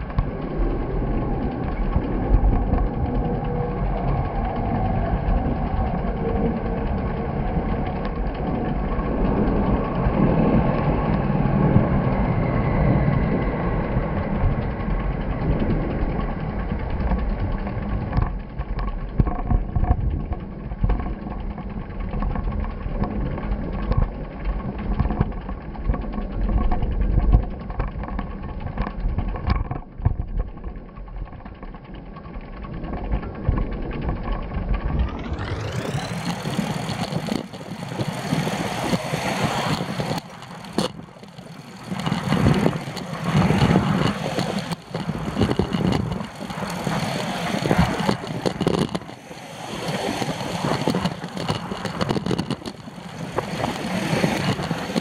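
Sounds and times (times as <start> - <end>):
faint engine tones: 0.0 - 55.0
vehicle road noise rumble: 0.0 - 55.0.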